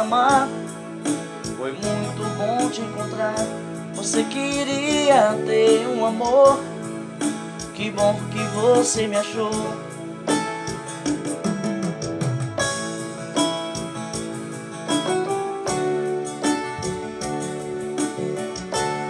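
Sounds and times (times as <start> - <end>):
electric keyboard music with beat: 0.0 - 19.0.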